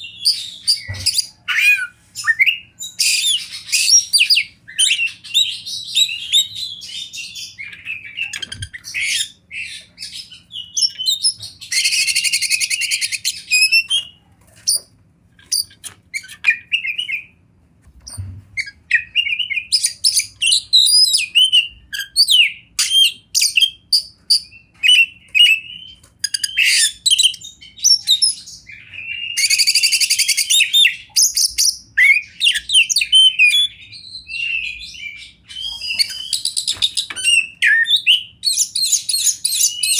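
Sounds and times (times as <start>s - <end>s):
magpie-robin singing: 0.0s - 14.2s, 15.4s - 17.4s, 18.1s - 39.9s.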